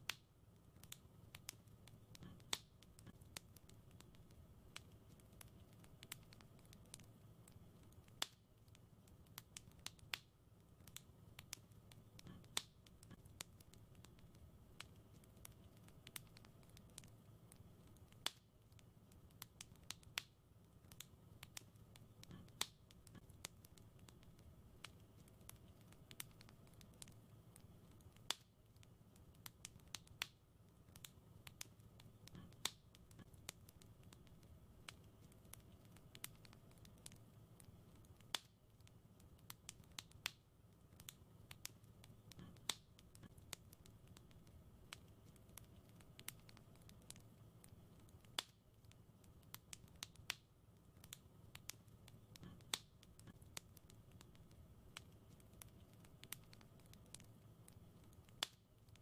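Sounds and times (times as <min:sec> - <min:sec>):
low rumble of fire: 0:00.0 - 0:59.0
wood fire crackling: 0:00.0 - 0:59.0.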